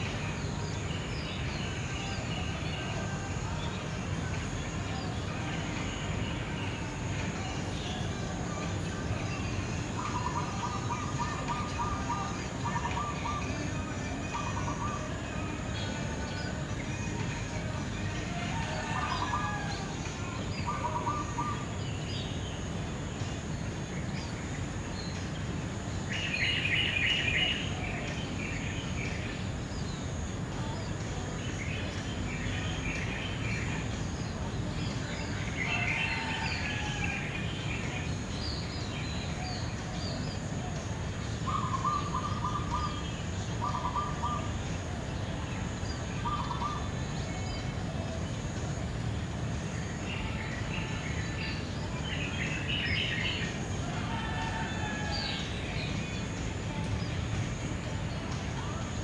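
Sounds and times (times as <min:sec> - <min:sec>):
birds trilling: 0:00.0 - 0:59.0.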